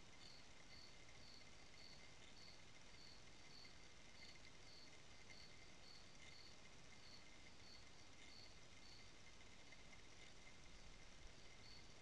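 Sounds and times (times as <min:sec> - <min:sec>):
crickets chirping: 0:00.0 - 0:12.0
low hiss: 0:00.0 - 0:12.0.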